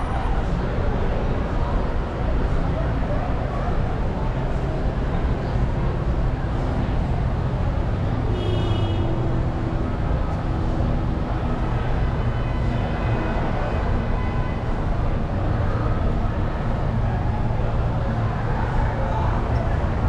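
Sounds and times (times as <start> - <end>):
passing traffic: 0.0 - 20.0.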